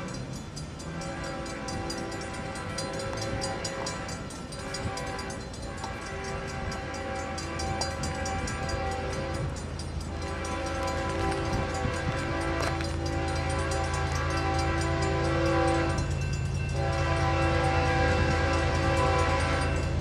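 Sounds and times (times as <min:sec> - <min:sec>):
diesel engine rumble: 0:00.0 - 0:20.0
train horn blasts: 0:00.0 - 0:20.0.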